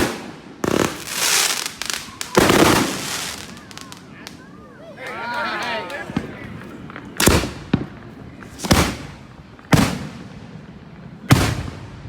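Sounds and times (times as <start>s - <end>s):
fireworks booming overhead: 0.0s - 4.7s, 5.8s - 12.0s
firework crack: 0.0s - 12.0s.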